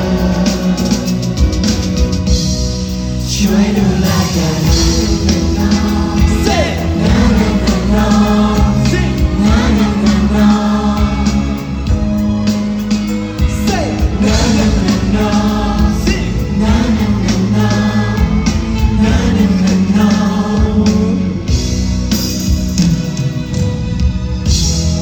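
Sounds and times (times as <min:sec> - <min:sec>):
band backing track: 0:00.0 - 0:25.0.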